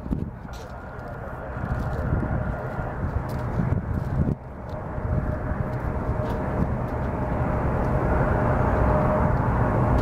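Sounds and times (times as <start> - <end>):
jet engines at takeoff power: 0.0 - 10.0
steady engine tone: 0.0 - 10.0.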